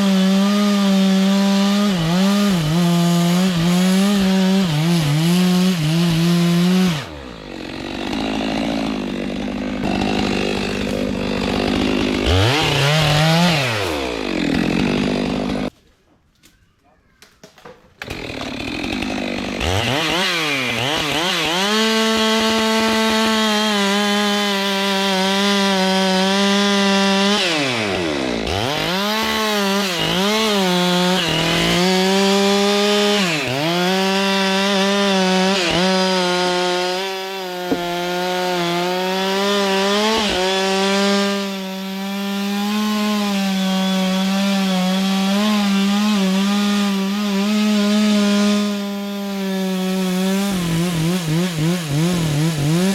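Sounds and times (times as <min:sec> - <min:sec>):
chainsaw cutting wood: 0:00.0 - 0:15.8, 0:17.6 - 0:52.9.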